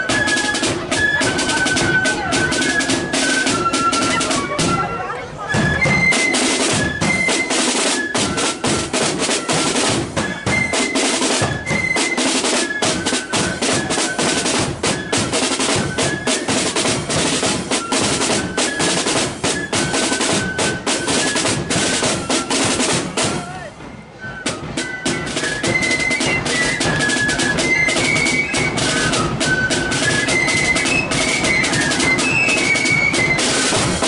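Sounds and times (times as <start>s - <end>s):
snare drum rolls: 0.0s - 4.9s, 5.5s - 34.0s
flutes playing melody: 0.0s - 34.0s.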